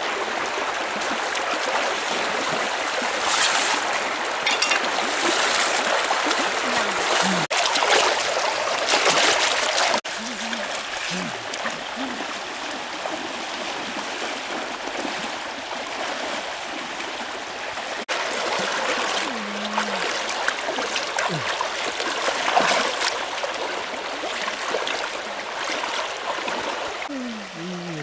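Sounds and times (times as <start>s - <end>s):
splashes of people wading: 0.0s - 28.0s
stream running over rocks: 0.0s - 28.0s.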